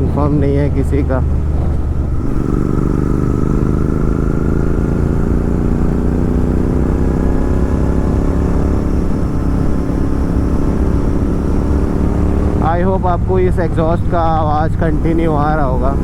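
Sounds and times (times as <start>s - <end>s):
motorcycle engine riding: 0.0s - 16.0s.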